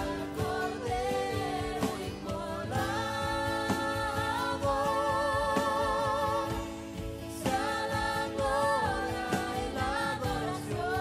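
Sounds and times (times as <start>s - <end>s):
band with steady drum beats: 0.0s - 11.0s
voices singing worship song: 0.0s - 11.0s.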